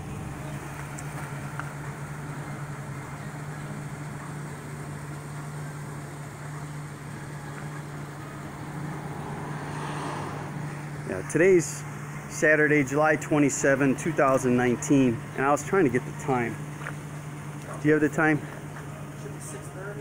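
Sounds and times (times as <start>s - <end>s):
truck low mechanical hum: 0.0s - 20.0s.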